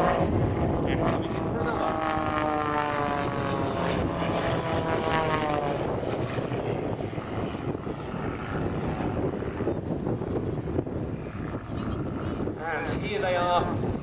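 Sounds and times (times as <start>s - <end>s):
propeller aircraft flying past: 0.0s - 14.0s.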